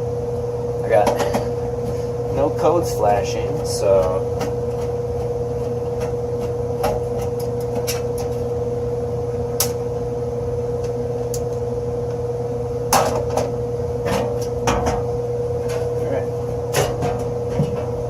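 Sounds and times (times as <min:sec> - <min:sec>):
air conditioning unit humming: 0:00.0 - 0:18.0
constant whine: 0:00.0 - 0:18.0.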